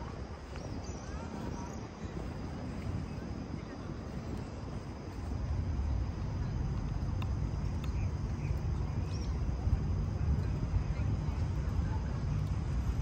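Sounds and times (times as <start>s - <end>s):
distant city noise: 0.0s - 13.0s
wind rumble: 0.0s - 13.0s.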